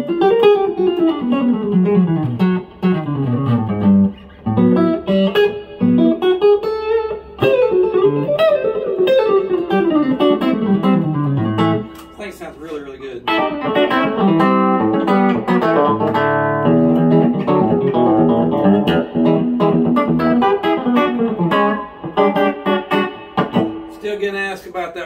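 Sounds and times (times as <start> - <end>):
electric guitar country licks: 0.0 - 25.0.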